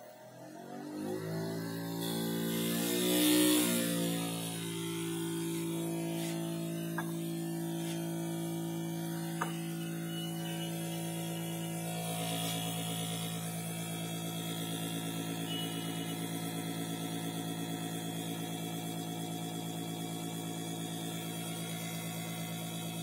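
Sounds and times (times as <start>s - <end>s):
electric motor humming: 0.9s - 23.0s.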